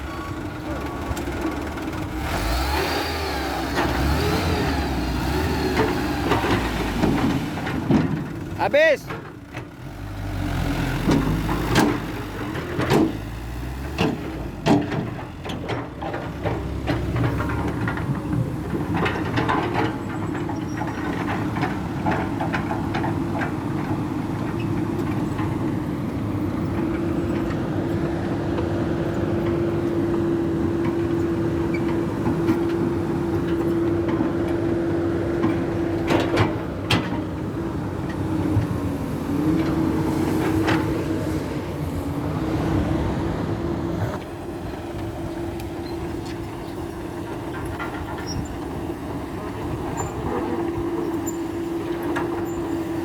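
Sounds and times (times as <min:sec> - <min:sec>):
dump truck engine running: 0:00.0 - 0:53.0.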